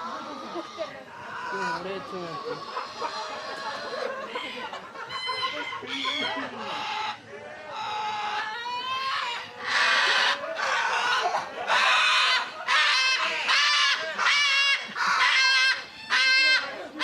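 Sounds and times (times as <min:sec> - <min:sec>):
parrots screeching: 0:00.0 - 0:17.0.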